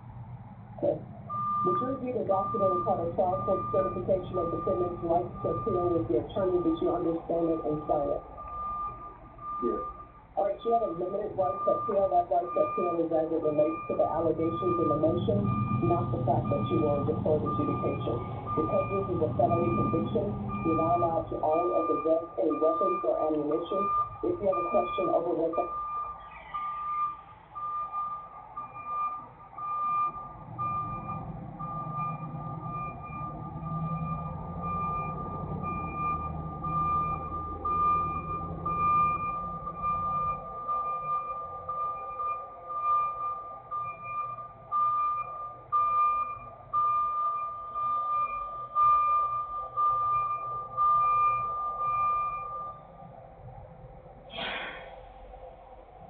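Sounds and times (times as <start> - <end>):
truck engine rumbling: 0.0 - 56.0
truck backup alarm beeping: 0.8 - 53.3.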